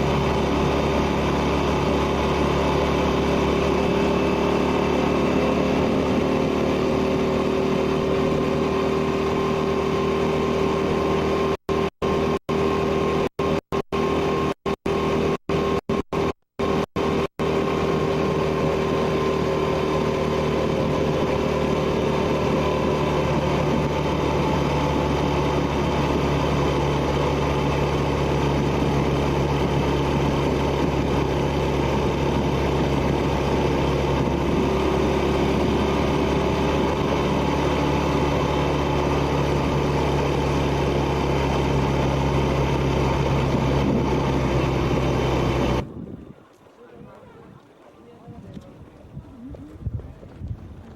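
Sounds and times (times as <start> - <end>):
motorcycle engine cruising: 0.0 - 47.6, 48.2 - 50.9.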